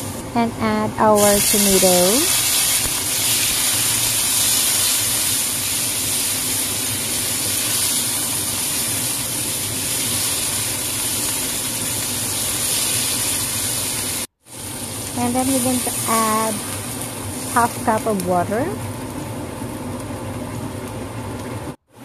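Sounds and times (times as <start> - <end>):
food sizzling in a wok: 1.0 - 21.7.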